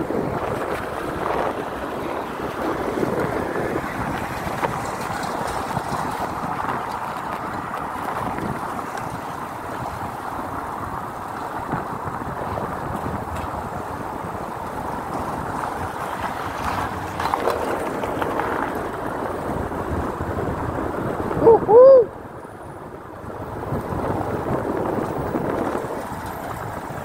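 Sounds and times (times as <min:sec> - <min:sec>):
bike tyres rolling on pavement: 0:00.0 - 0:27.0
wind rushing over microphone: 0:00.0 - 0:27.0.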